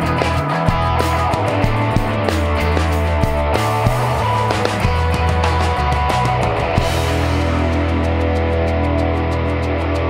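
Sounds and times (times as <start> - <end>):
drums: 0.0 - 10.0
heavy bass line: 0.0 - 10.0
rock music: 0.0 - 10.0.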